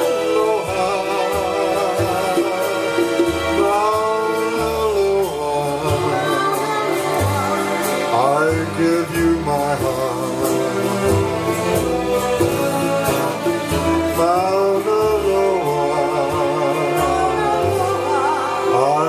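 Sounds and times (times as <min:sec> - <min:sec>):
acoustic guitar: 0:00.0 - 0:19.0
conga drums: 0:00.0 - 0:19.0
keyboard: 0:00.0 - 0:19.0
man singing: 0:00.0 - 0:19.0.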